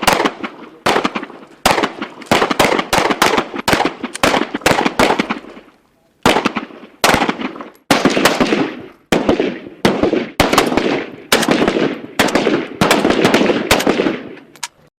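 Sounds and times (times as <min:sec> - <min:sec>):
gunshot echo: 0:00.0 - 0:14.4
rifle firing bursts: 0:00.0 - 0:14.4.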